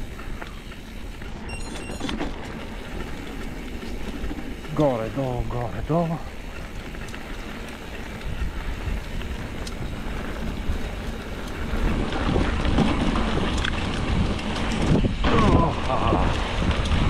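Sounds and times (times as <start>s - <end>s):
bike clicks and rattles: 0.0s - 17.0s
wind rushing over microphone: 2.6s - 17.0s.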